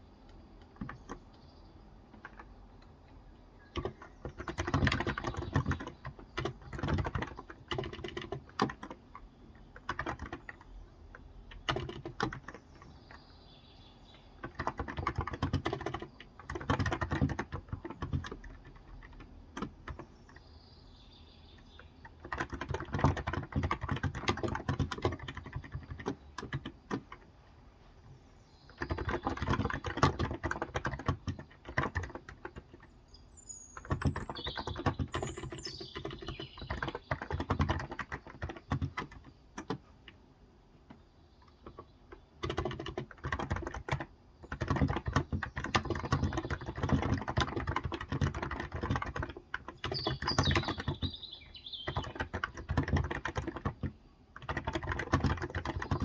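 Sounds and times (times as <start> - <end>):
birds chirping: 0.0 - 56.0
keyboard typing: 0.2 - 1.4, 2.1 - 3.0, 3.6 - 13.2, 14.3 - 20.4, 21.6 - 27.3, 28.7 - 32.9, 33.7 - 40.2, 40.8 - 56.0.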